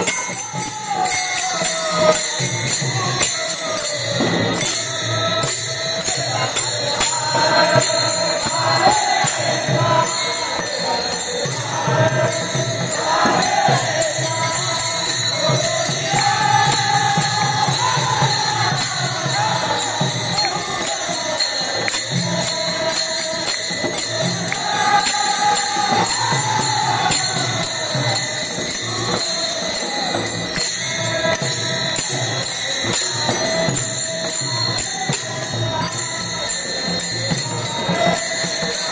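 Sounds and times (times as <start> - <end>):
hand cymbals clashing: 0.0 - 38.9
voices singing in chorus: 0.0 - 38.9.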